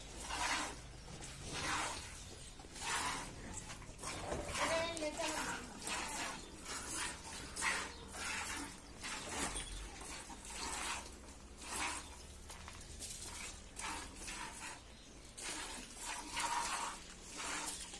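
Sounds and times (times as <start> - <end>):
milk spurting into plastic bucket: 0.1 - 17.9.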